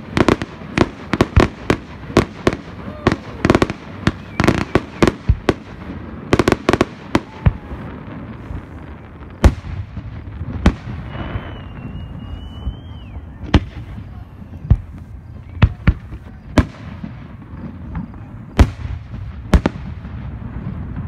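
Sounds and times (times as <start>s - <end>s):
firework whistle: 0.0s - 9.7s, 10.6s - 19.0s
fireworks bangs and crackles: 0.0s - 21.0s.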